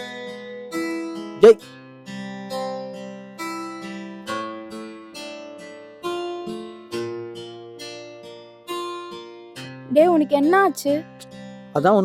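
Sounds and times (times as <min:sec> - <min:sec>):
acoustic guitar chords strummed: 0:00.0 - 0:11.8.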